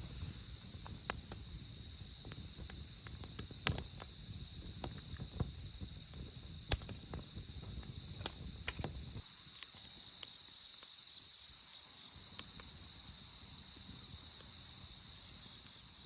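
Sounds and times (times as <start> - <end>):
night insects trilling: 0.0 - 16.0
wood fire crackling and popping: 0.0 - 16.0.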